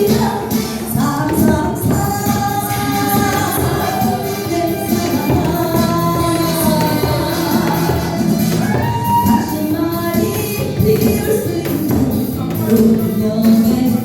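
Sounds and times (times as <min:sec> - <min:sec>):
backing track: 0:00.0 - 0:14.0
person singing: 0:00.0 - 0:14.0.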